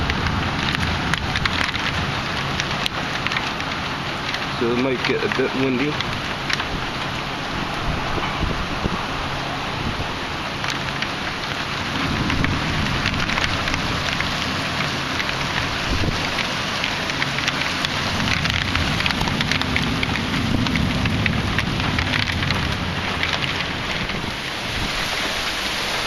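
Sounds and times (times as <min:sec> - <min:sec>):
heavy rain falling: 0:00.0 - 0:26.0
storm wind rumble: 0:00.0 - 0:26.0.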